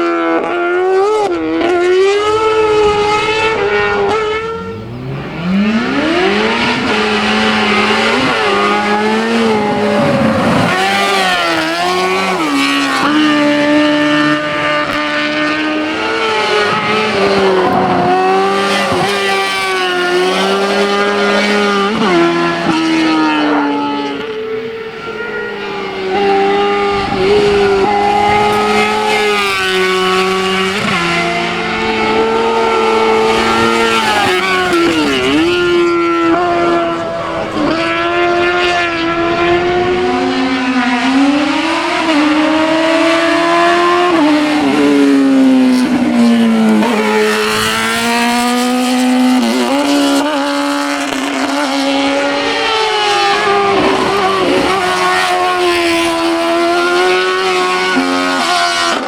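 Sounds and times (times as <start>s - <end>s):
racing car engine at full throttle: 0.0s - 59.0s.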